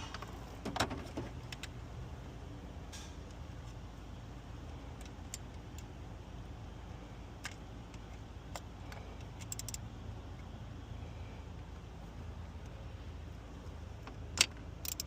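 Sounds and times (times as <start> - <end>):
steady low rumble: 1.3 - 15.0.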